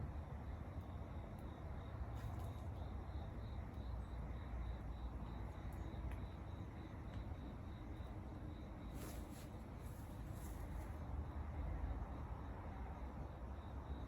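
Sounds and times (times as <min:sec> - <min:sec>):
insect chirping: 0:00.8 - 0:12.4.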